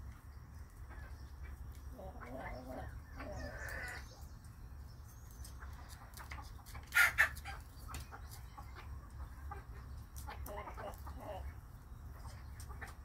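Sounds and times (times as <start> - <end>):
hens pecking grain: 0.0 - 13.0
hen clucking: 0.7 - 4.5, 5.3 - 13.0.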